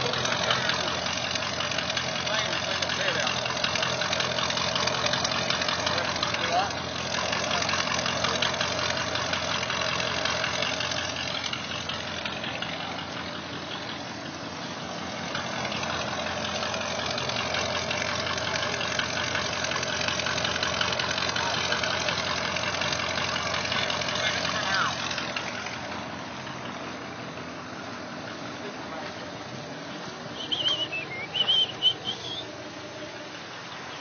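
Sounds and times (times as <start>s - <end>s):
pickup truck engine idling: 0.0s - 34.0s.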